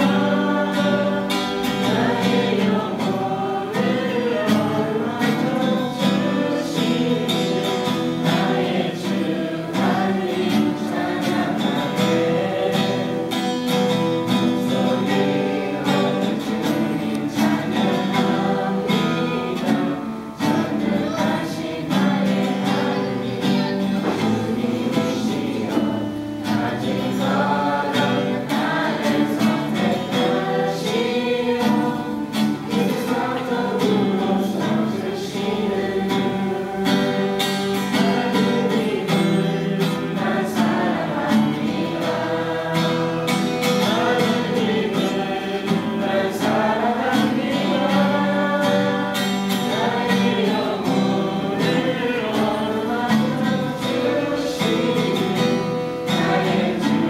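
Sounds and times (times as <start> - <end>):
acoustic guitar: 0.0 - 57.0
youth choir singing: 0.0 - 57.0.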